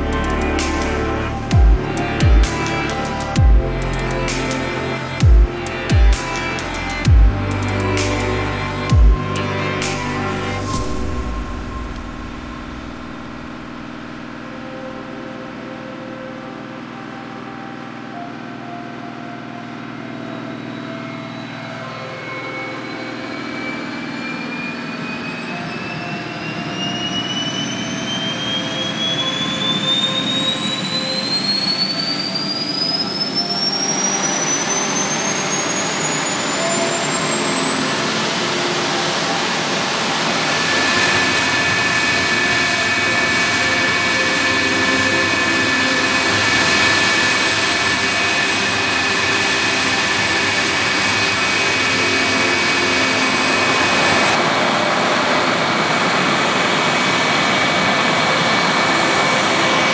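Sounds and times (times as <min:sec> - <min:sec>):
jet engine roar: 0:00.0 - 0:15.2, 0:20.5 - 0:59.9
jet engine whine rising in pitch: 0:00.0 - 0:59.9.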